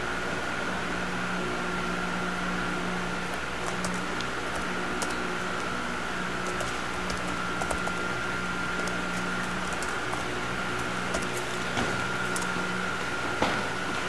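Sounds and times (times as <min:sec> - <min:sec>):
fan humming and hissing: 0:00.0 - 0:14.0.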